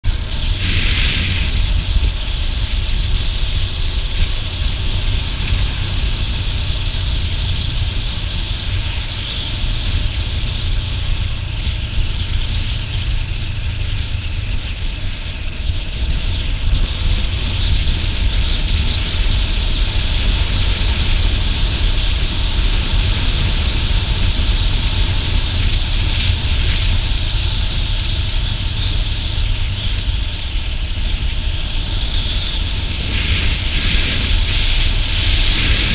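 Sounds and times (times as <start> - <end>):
motorcycle engine rumble: 0.0 - 35.9
road rumble: 0.0 - 35.9
wind rushing over microphone: 0.0 - 35.9.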